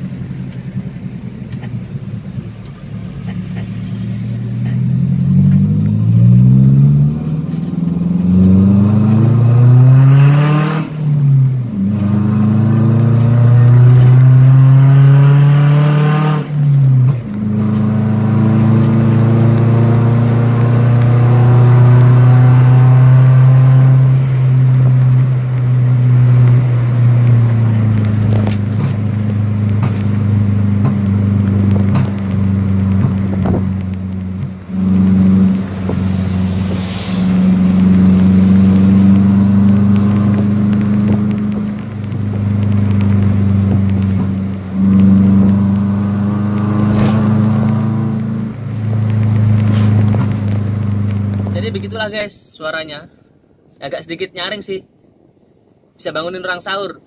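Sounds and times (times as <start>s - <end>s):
van engine and exhaust accelerating: 0.0s - 52.2s.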